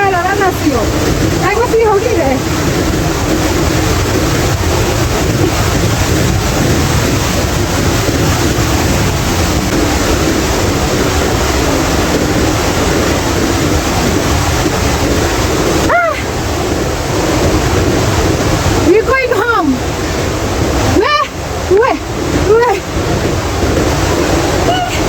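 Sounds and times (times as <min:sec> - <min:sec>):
waterfall rushing: 0:00.0 - 0:25.0
wind gusting on microphone: 0:00.0 - 0:25.0.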